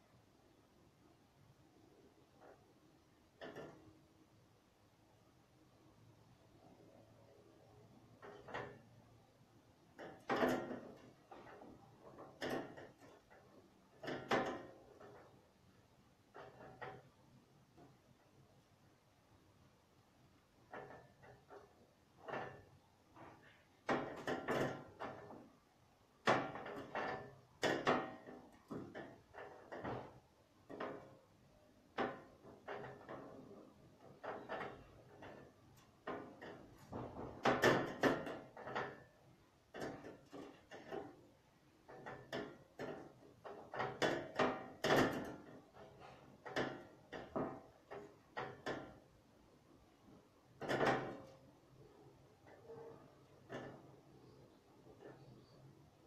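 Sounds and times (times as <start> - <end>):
objects knocking and clattering: 1.9 - 4.1, 6.6 - 18.6, 20.4 - 56.0.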